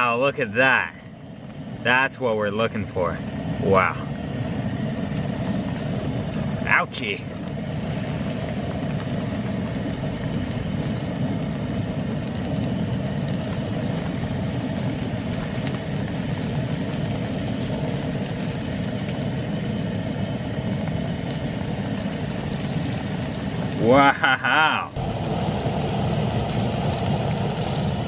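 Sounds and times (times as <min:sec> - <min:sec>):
fish deep-frying in oil: 0:00.0 - 0:28.0.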